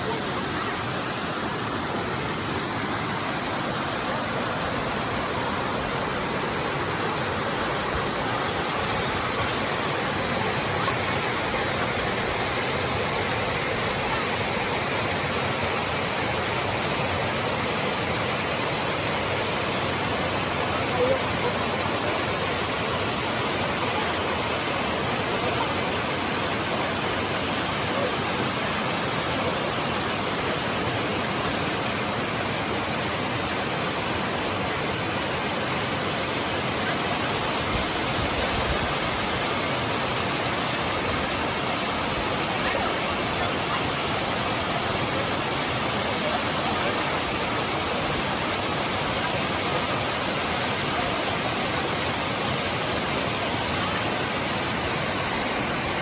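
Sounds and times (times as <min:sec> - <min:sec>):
water rushing over waterfall: 0:00.0 - 0:56.0.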